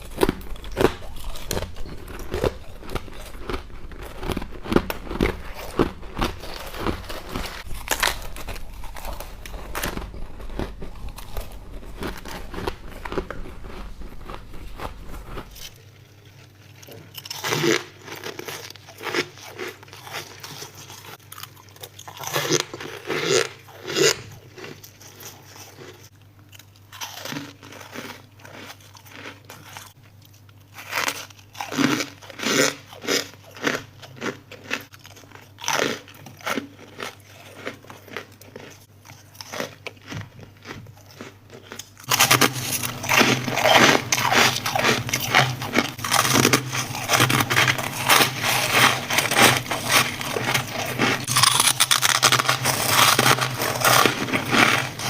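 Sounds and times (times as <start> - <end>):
crackly crunching and scraping: 0.0 - 55.0
person chewing ice: 0.0 - 55.0.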